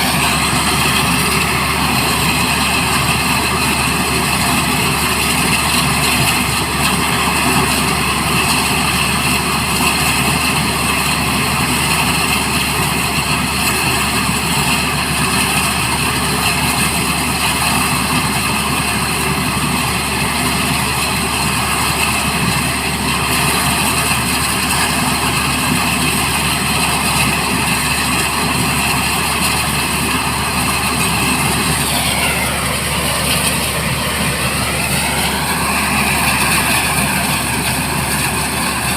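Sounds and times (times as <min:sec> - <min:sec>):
helicopter engines and rotor: 0:00.0 - 0:38.9.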